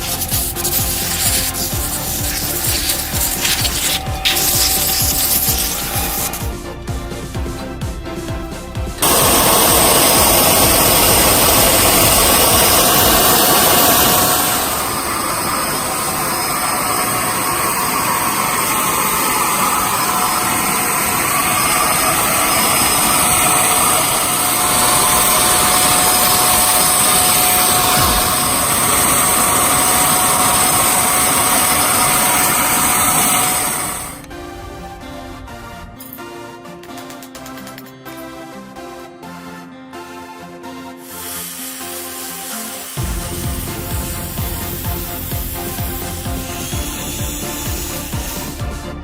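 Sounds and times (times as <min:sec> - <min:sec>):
electric motor whining: 0:00.0 - 0:35.7, 0:41.0 - 0:49.0
loud rushing noise: 0:00.0 - 0:36.8, 0:41.8 - 0:49.0.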